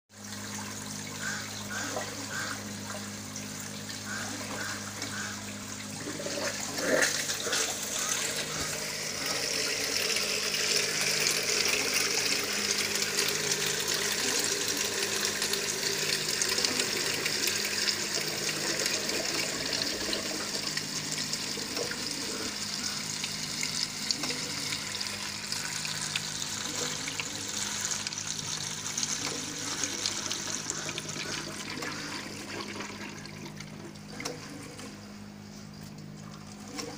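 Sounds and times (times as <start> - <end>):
water trickling and splashing: 0.1 - 35.0.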